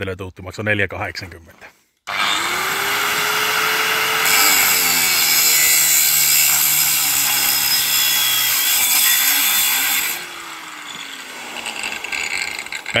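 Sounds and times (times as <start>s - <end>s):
power tool whining and grinding: 2.1s - 13.0s.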